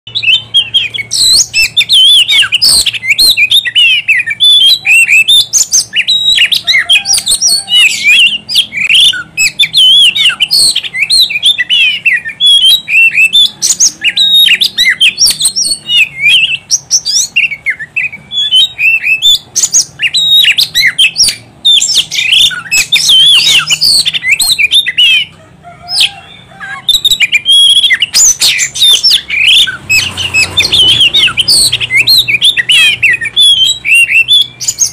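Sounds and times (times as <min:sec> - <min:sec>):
magpie-robin singing: 0:00.1 - 0:34.9.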